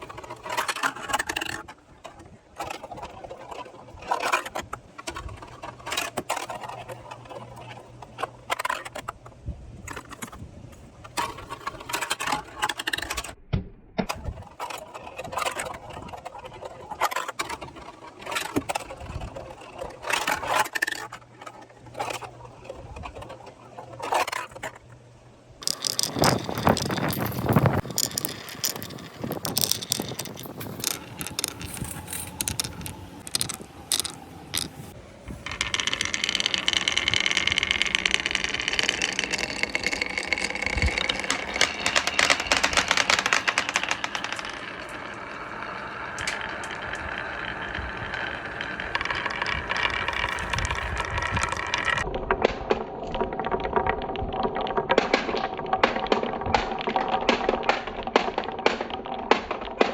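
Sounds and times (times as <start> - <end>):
marbles rolling and clacking: 0.0 - 9.3, 9.9 - 10.4, 11.0 - 13.4, 14.1 - 25.0, 25.6 - 59.9.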